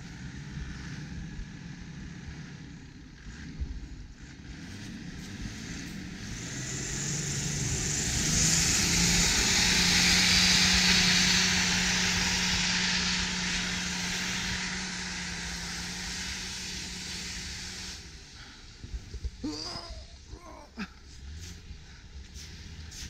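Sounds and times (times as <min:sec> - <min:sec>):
truck engine drone: 0:00.0 - 0:23.0
tyres churning snow: 0:00.0 - 0:23.0.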